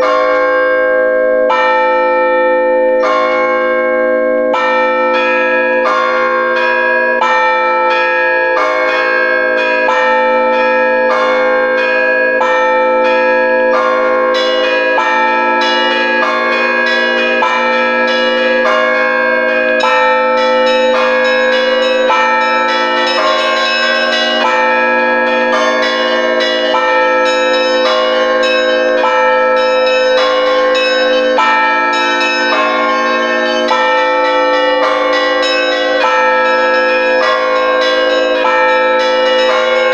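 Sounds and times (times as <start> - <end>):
large bells humming: 0.0 - 39.9
small church bells striking: 0.0 - 39.9.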